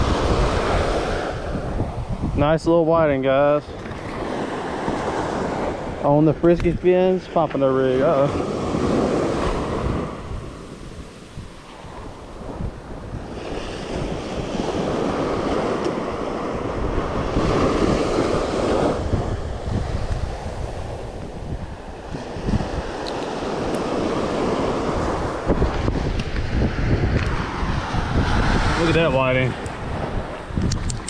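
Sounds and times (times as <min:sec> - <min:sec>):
surf washing up beach: 0:00.0 - 0:31.0
wind buffeting microphone: 0:00.0 - 0:31.0.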